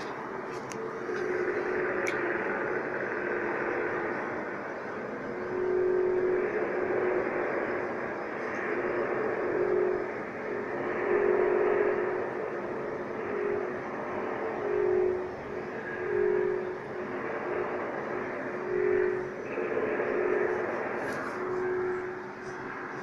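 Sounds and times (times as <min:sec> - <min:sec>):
loud droning from overhead: 0:00.0 - 0:23.0
steady rumbling haze: 0:00.0 - 0:23.0
horn-like tone: 0:00.8 - 0:23.0.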